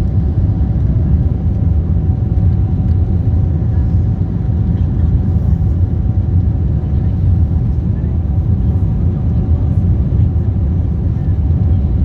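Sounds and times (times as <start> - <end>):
jet rumble: 0.0 - 12.0.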